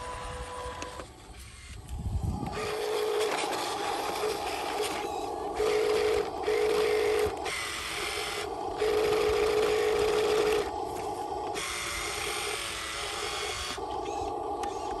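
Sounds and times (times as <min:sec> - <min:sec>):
toy truck electric motor whining: 0:00.0 - 0:15.0.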